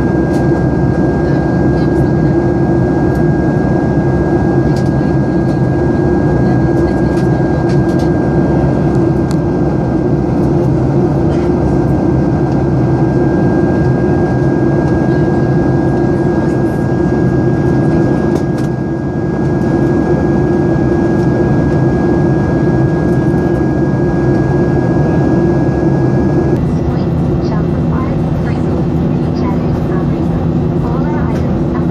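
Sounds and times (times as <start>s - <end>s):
airplane cabin engine noise: 0.0s - 31.9s
thin steady whine: 0.0s - 31.9s.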